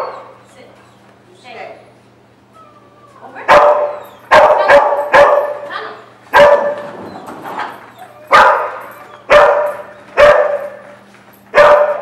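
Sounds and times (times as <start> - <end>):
dog barking in a large hall: 0.0 - 1.3, 2.4 - 12.0.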